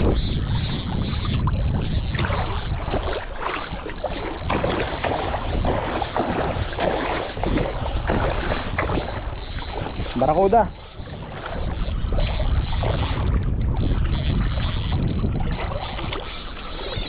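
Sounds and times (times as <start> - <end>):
water splashing against a boat: 0.0 - 17.0
wind rumble on microphone: 0.0 - 17.0.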